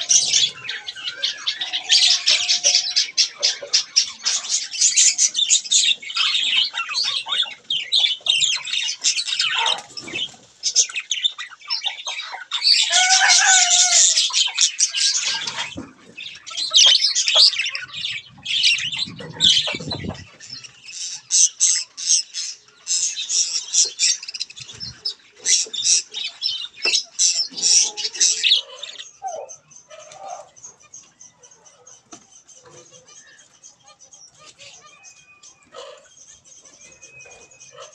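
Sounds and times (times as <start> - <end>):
budgerigars chattering and squawking: 0.0 - 37.9.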